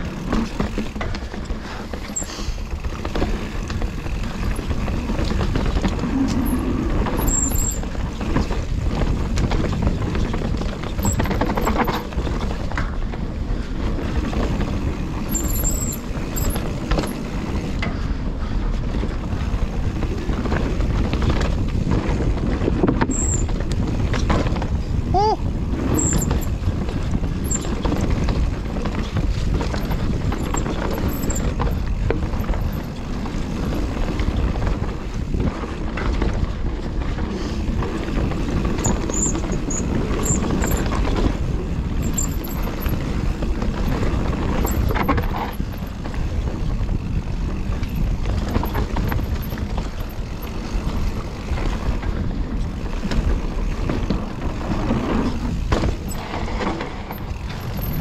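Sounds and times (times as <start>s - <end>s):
bike rattling and clattering: 0.0s - 58.0s
tyres rumbling over dirt: 0.0s - 58.0s
wind buffeting microphone: 0.0s - 58.0s.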